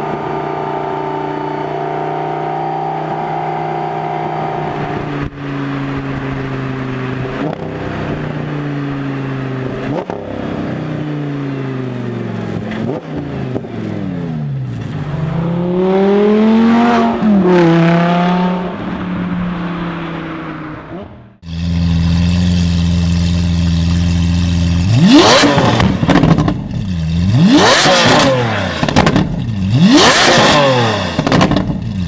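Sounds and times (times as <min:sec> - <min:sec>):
engine idling and revving: 0:00.0 - 0:32.0
sports car engine accelerating: 0:00.0 - 0:32.0.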